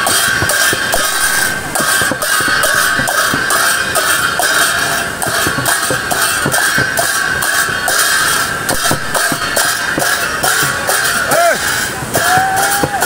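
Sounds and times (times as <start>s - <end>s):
hand cymbals clashing: 0.0s - 13.0s
river rushing: 0.0s - 13.0s.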